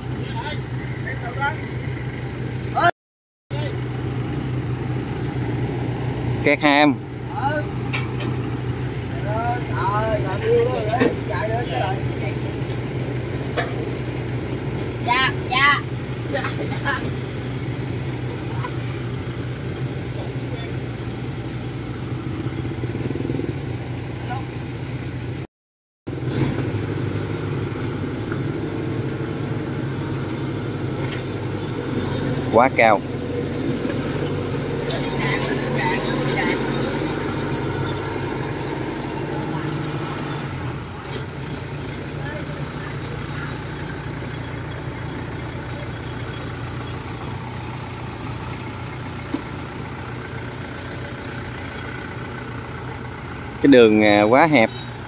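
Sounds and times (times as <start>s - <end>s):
diesel engine running under load: 0.0s - 2.9s, 3.5s - 25.5s, 26.1s - 55.0s.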